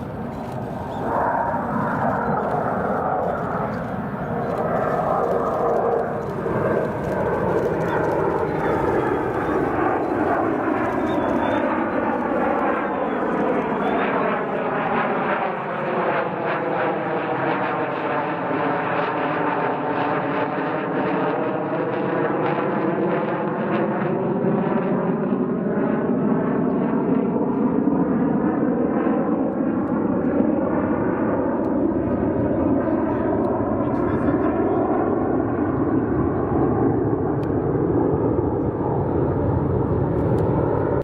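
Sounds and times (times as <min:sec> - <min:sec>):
jet aircraft flying overhead: 0:00.0 - 0:41.0.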